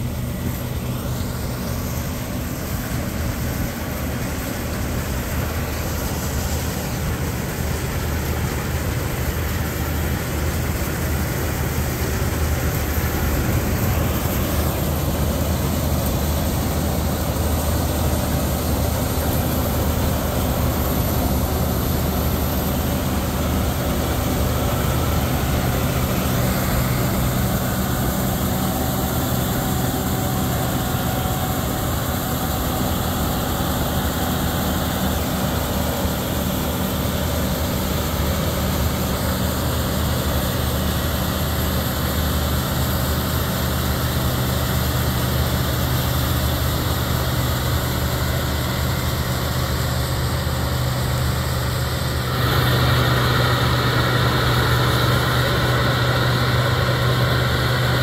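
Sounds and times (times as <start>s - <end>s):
combine harvester diesel drone: 0.0s - 58.0s.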